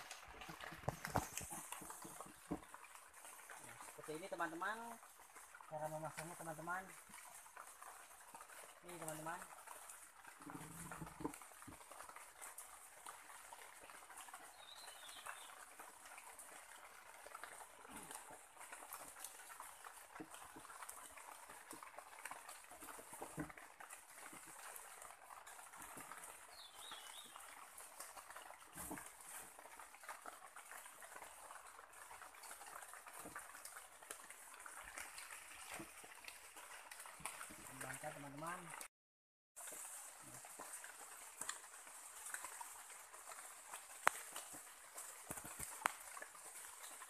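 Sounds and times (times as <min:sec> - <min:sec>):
wooden poles creaking and clicking: 0:00.0 - 0:04.0, 0:05.0 - 0:14.5, 0:15.1 - 0:38.1, 0:39.6 - 0:47.0
faint forest ambience: 0:00.0 - 0:38.6, 0:39.6 - 0:47.0.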